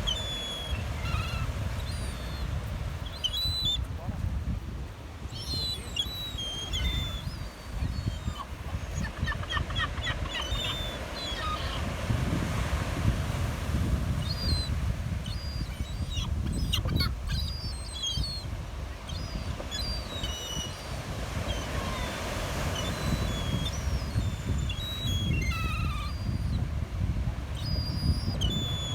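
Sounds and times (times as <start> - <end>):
gulls calling: 0.0 - 3.9, 5.2 - 12.7, 14.2 - 26.6
beach surf rumble: 0.0 - 28.9.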